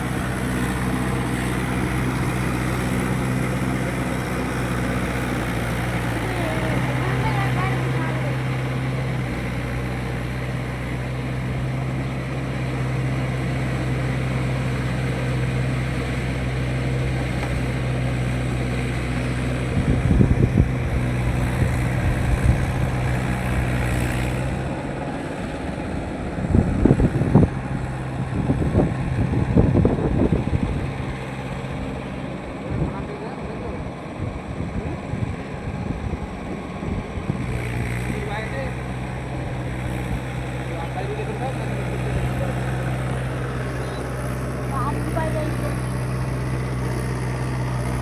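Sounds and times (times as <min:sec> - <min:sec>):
loud irregular low rumbles: 0:00.0 - 0:48.0
tractor diesel engine humming: 0:00.0 - 0:48.0.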